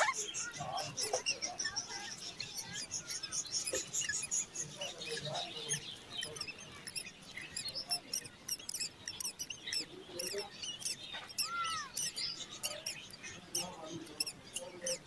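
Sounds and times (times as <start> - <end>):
bird chicks cheeping: 0.0 - 15.0.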